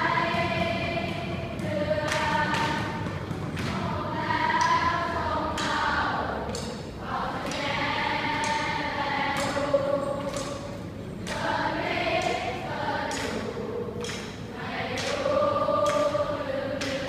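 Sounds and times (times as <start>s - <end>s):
group of voices singing: 0.0s - 17.0s.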